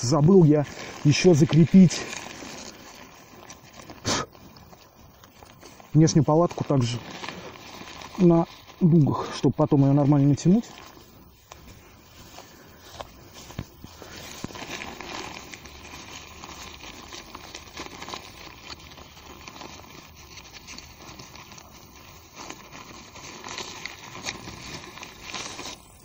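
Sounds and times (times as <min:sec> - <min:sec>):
tent fabric rustling: 0:00.0 - 0:26.0.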